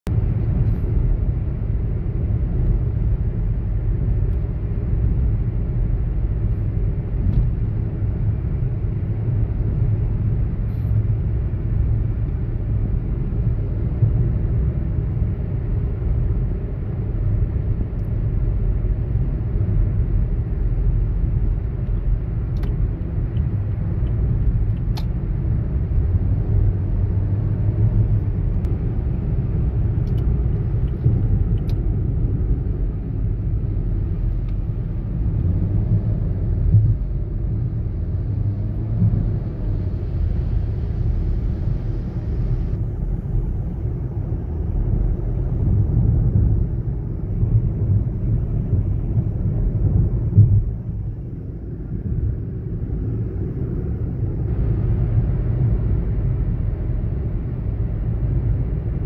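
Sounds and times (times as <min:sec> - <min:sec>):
car engine rumble: 0:00.0 - 0:59.0
tyre road noise: 0:00.1 - 0:59.0.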